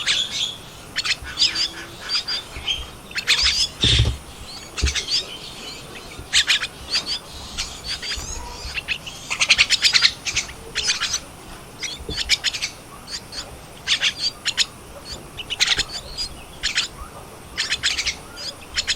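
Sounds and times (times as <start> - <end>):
nestlings chirping: 0.0 - 18.9.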